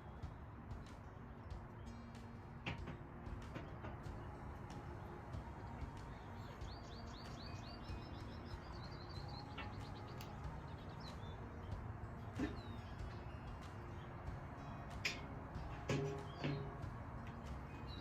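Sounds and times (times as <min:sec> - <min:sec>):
low outdoor background noise: 0:00.0 - 0:18.0
songbird chirping: 0:00.0 - 0:18.0.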